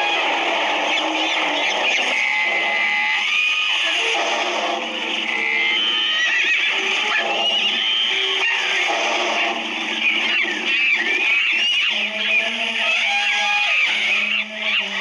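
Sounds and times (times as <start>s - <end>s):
animal and bird calls: 0.0s - 4.2s, 5.0s - 15.0s.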